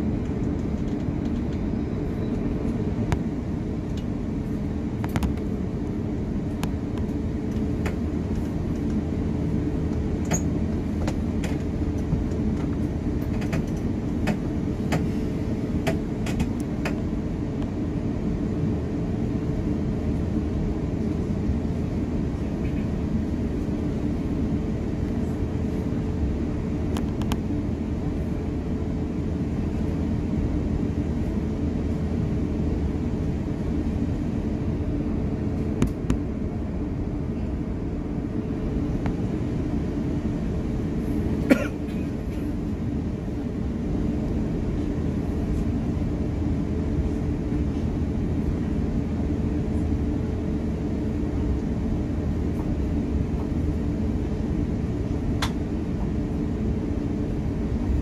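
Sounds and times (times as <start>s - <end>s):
airliner cabin rumble: 0.0s - 58.0s
steady hum: 0.0s - 58.0s.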